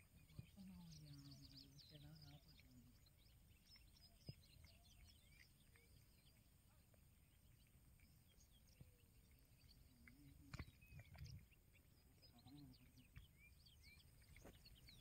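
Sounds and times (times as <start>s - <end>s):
faint high bird chirps: 0.0s - 15.0s.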